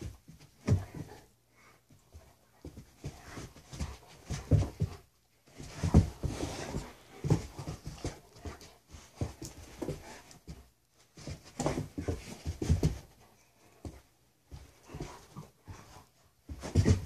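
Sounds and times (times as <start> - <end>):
dogs scuffling on carpet: 0.0 - 17.0
dogs panting: 0.6 - 17.0.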